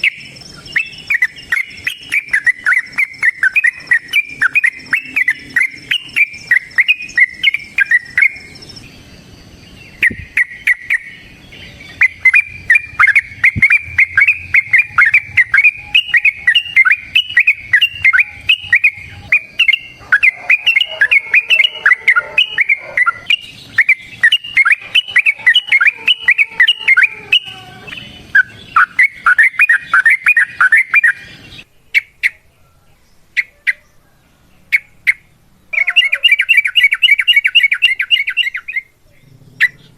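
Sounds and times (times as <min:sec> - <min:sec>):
bulbul singing chirping notes: 0:00.0 - 0:32.6, 0:34.6 - 0:39.9.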